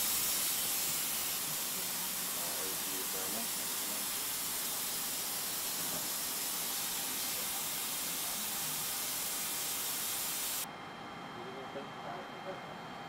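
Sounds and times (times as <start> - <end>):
steady hiss: 0.0 - 10.7.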